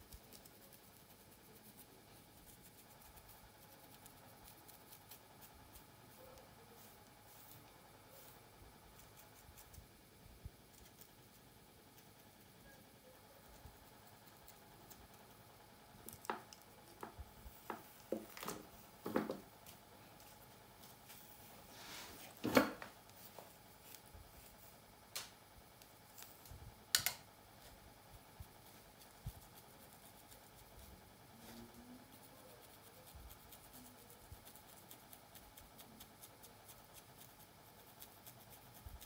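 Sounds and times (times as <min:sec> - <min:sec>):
comb going through hair: 0:00.0 - 0:39.0.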